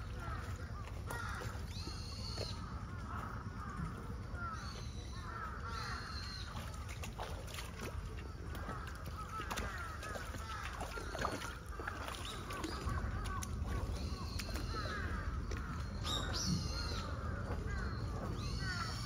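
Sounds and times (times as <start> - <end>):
birds calling: 0.0 - 19.0
water sloshing and splashing: 0.0 - 19.0.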